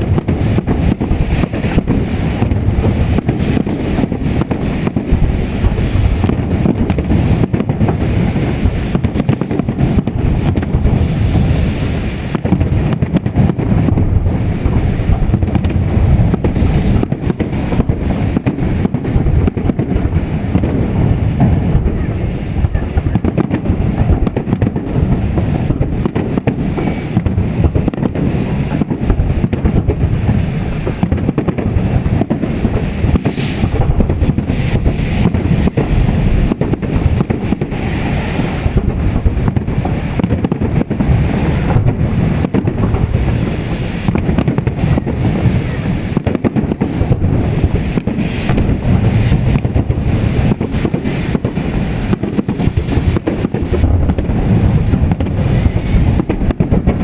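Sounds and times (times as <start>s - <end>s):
fireworks bangs: 0.0s - 57.0s
wind buffeting microphone: 0.0s - 57.0s.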